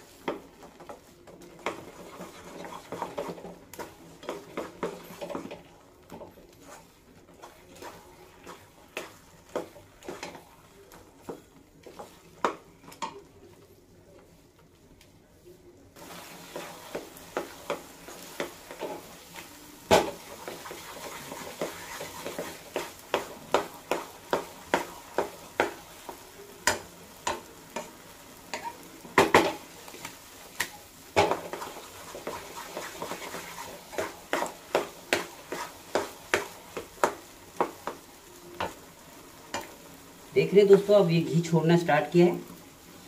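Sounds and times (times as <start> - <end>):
wooden spatula scraping a pan: 0.0 - 13.1, 16.0 - 43.0
ghee sizzling: 0.0 - 43.0.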